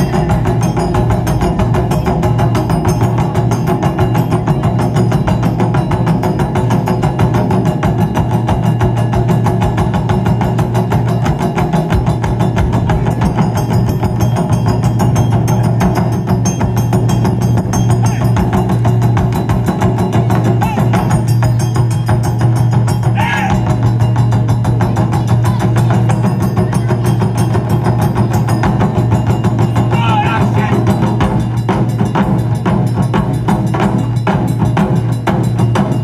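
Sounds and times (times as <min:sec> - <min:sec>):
taiko drum ensemble: 0:00.0 - 0:36.0.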